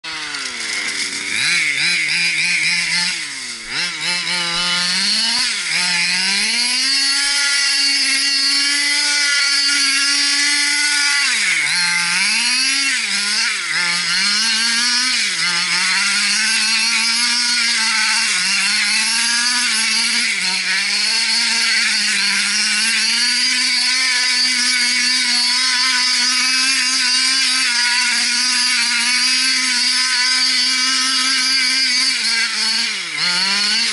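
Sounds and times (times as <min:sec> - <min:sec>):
small two-stroke engine revving: 0:00.0 - 0:33.9.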